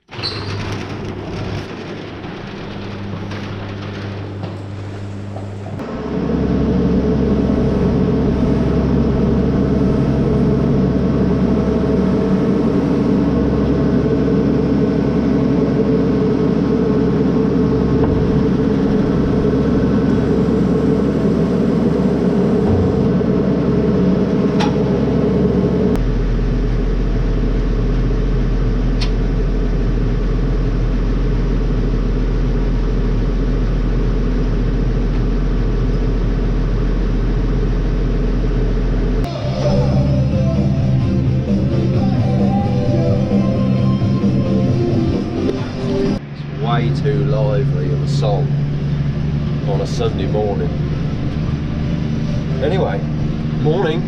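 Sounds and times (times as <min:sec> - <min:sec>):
vehicle engine running: 0:01.0 - 0:54.0
deep steady drone: 0:02.4 - 0:54.0.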